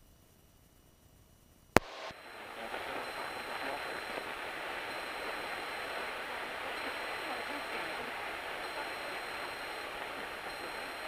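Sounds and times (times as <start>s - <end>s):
aircraft cockpit hiss: 1.8s - 11.0s.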